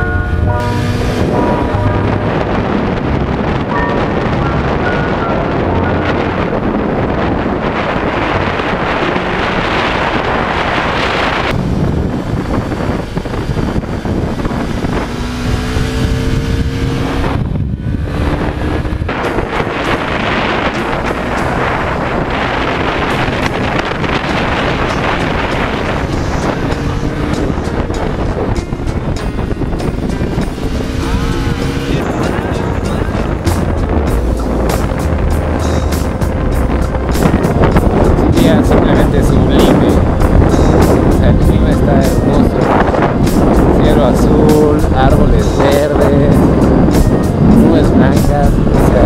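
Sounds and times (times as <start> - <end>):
motorcycle engine: 0.0 - 49.0
wind rushing over microphone: 0.0 - 49.0.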